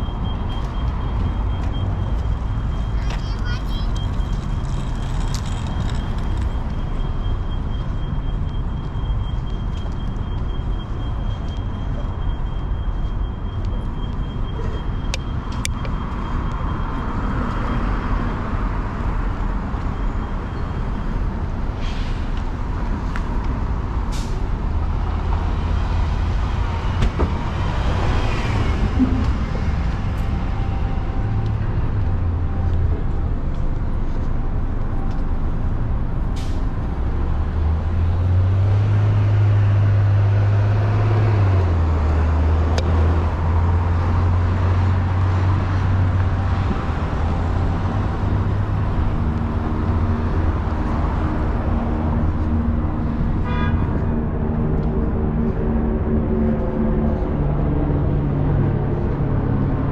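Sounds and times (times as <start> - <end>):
heavy vehicle engine rumble: 0.0 - 59.9
passing vehicles: 0.0 - 59.9.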